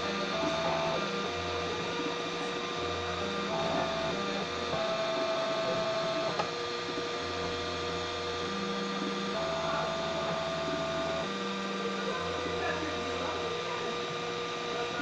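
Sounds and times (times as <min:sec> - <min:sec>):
stepper motors tones: 0:00.0 - 0:15.0.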